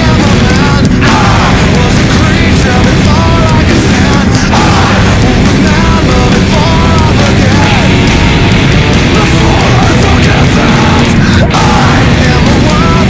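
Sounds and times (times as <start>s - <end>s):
heavy metal rock music: 0.0s - 13.0s.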